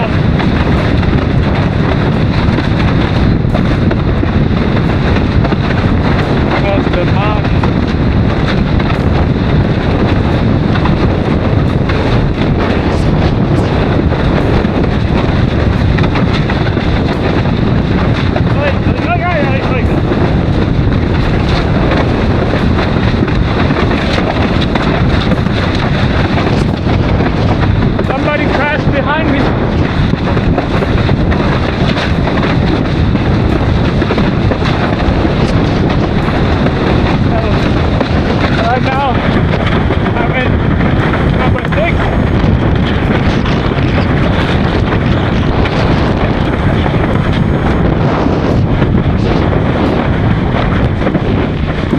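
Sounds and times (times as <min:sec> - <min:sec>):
water rushing under board: 0:00.0 - 0:51.9
wind buffeting microphone: 0:00.0 - 0:51.9.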